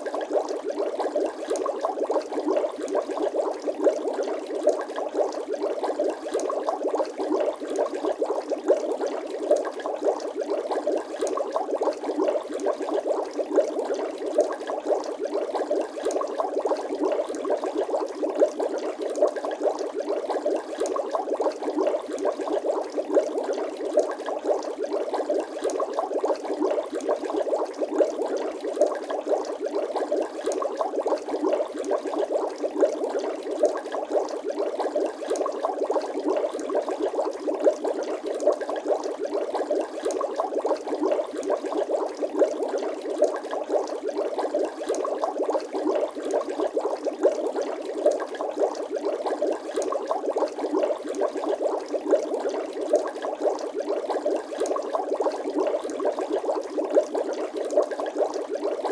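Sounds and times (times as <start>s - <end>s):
liquid bubbling: 0.0s - 58.9s.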